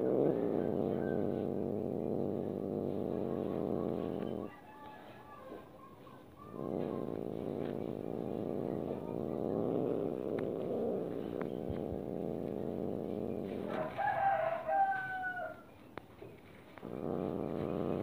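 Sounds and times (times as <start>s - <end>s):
cat growling: 0.0s - 18.0s.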